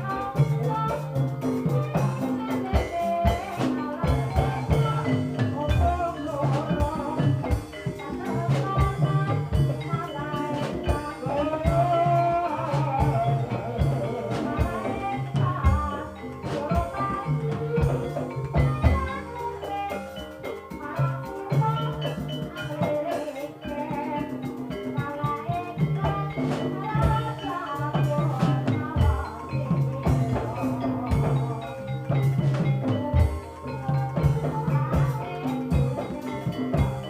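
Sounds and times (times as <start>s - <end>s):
hand drum strokes: 0.0s - 37.0s
tuned percussion patterns: 0.0s - 37.0s.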